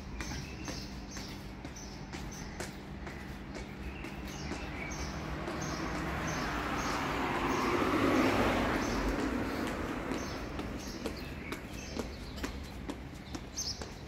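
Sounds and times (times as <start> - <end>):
broad rushing noise: 1.4 - 13.6.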